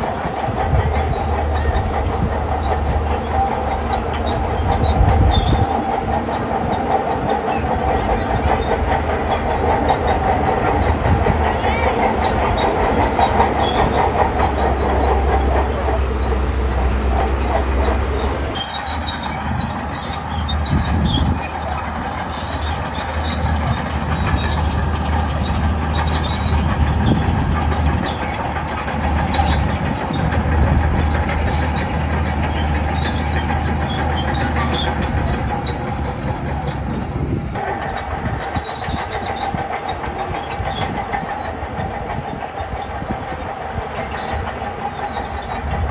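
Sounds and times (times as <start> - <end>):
bulldozer diesel engine rumbling: 0.0 - 45.9
steel tracks clanking: 0.0 - 45.9.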